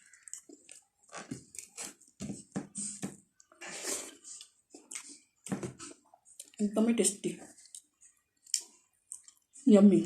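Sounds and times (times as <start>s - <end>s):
person chewing food: 0.0s - 6.6s, 7.5s - 9.6s.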